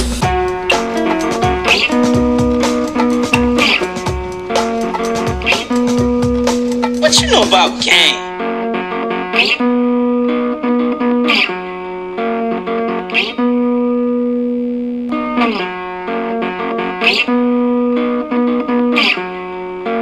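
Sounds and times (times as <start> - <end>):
strummed guitar music: 0.0 - 20.0.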